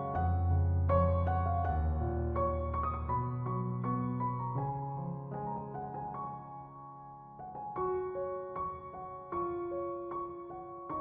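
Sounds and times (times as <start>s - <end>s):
soft piano notes: 0.0s - 11.0s.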